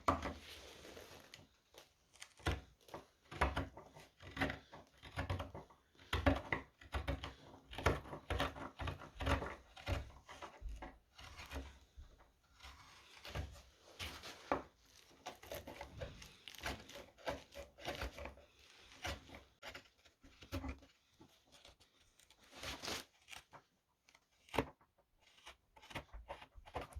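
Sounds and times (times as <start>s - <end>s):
chisel scraping wood: 0.0s - 1.5s, 2.1s - 26.9s.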